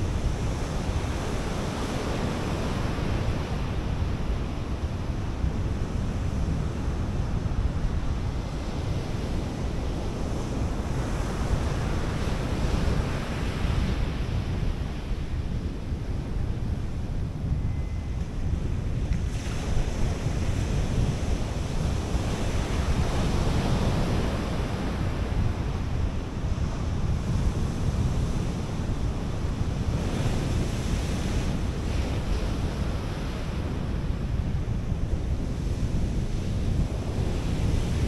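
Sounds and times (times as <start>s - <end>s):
wind buffeting the microphone: 0.0s - 38.0s.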